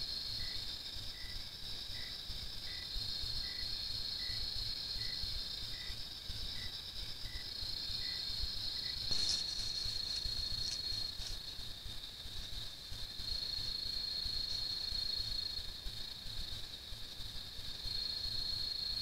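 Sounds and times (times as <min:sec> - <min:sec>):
cricket trill: 0:00.0 - 0:19.0
lower insect chirp: 0:00.0 - 0:19.0.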